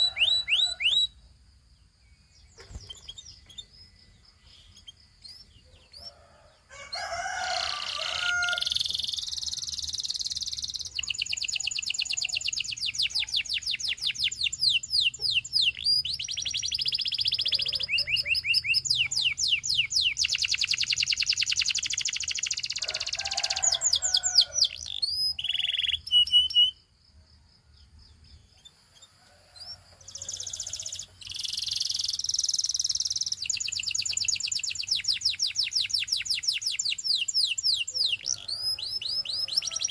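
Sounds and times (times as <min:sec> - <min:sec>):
canary singing trills: 0:00.0 - 0:01.2, 0:01.9 - 0:27.0, 0:27.8 - 0:39.9.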